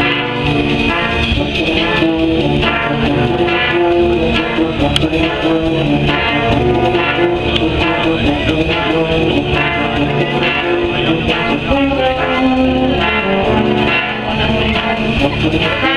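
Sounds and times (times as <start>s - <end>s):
brass band playing: 0.0s - 15.9s.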